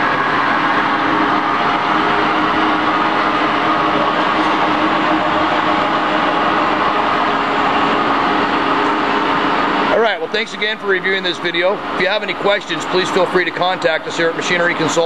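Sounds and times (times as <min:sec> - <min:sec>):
surface grinder hum and whir: 0:00.0 - 0:15.0.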